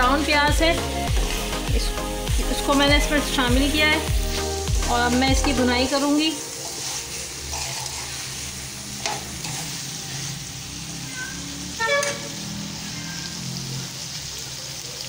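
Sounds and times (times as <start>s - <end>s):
meat and onions sizzling in oil: 0.0s - 15.0s.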